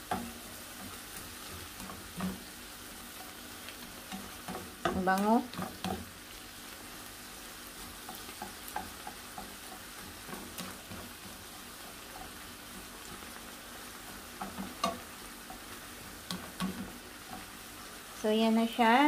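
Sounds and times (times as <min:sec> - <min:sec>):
seafood sizzling in a frying pan: 0:00.0 - 0:19.0.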